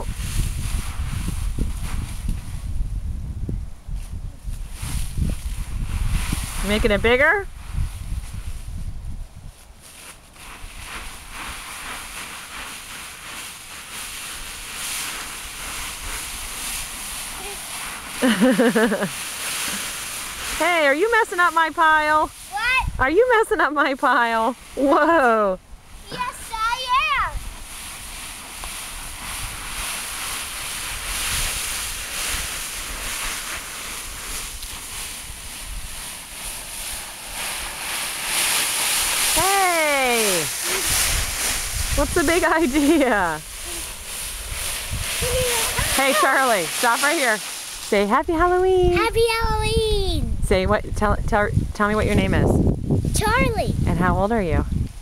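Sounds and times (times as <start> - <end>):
dry leaves rustling and crackling: 0.0 - 3.2, 3.9 - 49.1
wind rumbling on microphone: 0.0 - 55.0.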